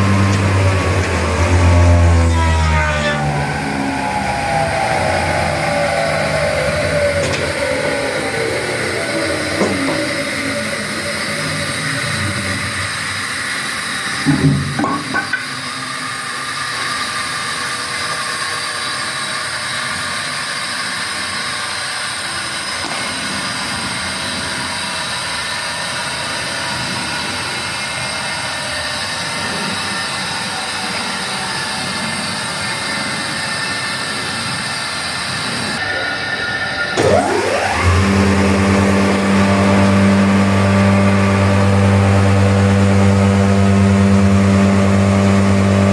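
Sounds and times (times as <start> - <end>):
woodworking machine whine: 0.0 - 45.9.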